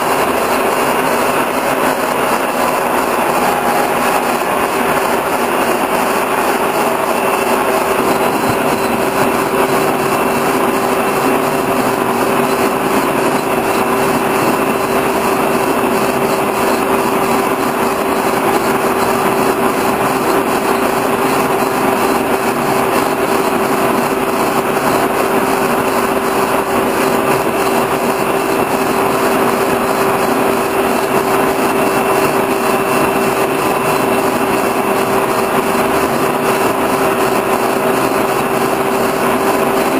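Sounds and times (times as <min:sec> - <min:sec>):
boring mill humming: 0:00.0 - 0:39.9.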